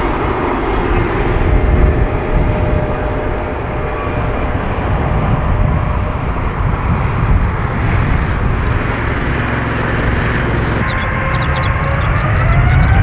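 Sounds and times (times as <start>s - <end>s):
aircraft rumble and roar: 0.0s - 13.0s.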